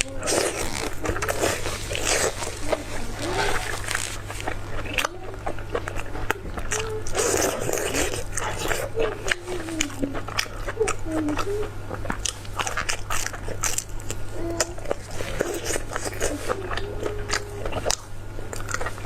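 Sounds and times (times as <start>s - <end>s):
chewing and biting food: 0.0s - 19.0s
low steady hum: 0.0s - 19.0s.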